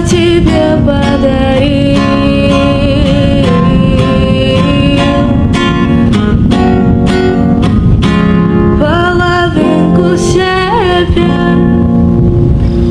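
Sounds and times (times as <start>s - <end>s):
acoustic guitar strumming: 0.0s - 12.9s.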